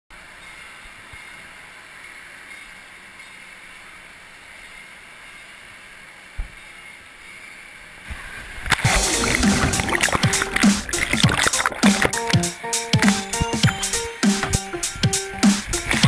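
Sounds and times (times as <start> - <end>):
indoor water park din: 0.1 - 16.0.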